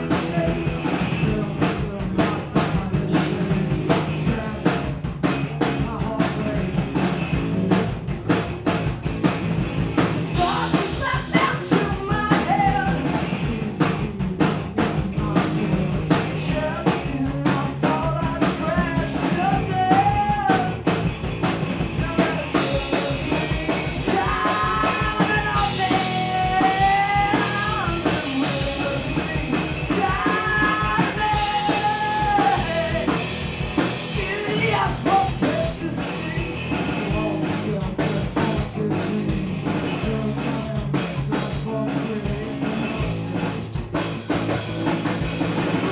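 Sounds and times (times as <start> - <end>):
person singing: 0.0 - 8.1, 10.1 - 20.8, 22.0 - 43.4
punk rock band playing: 0.0 - 45.9.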